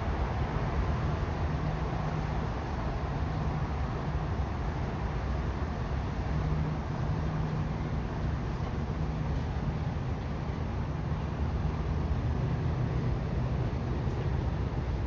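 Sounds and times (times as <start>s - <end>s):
faint machine hum: 0.0s - 15.0s
low city rumble: 0.0s - 15.0s.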